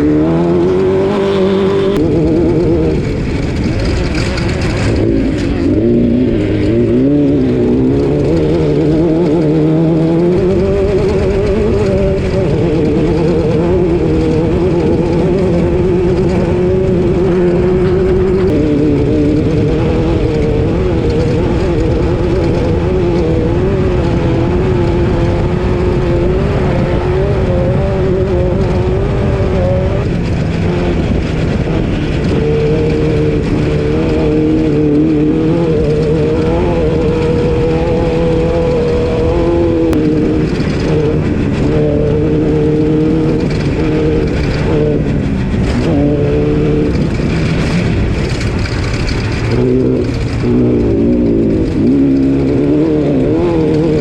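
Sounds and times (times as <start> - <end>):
knocks and rattles: 0.0 - 54.0
race car engine revving: 0.0 - 54.0
road and wind noise: 0.0 - 54.0.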